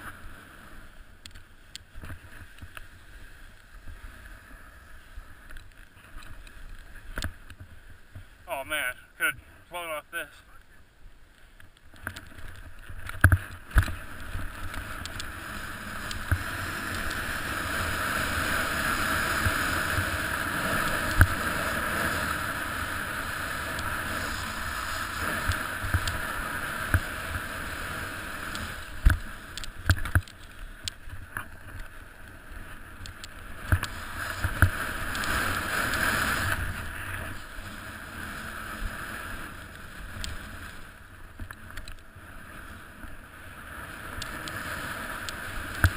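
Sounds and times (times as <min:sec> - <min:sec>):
snowboard carving through snow: 0:00.0 - 0:10.5, 0:12.3 - 0:45.9.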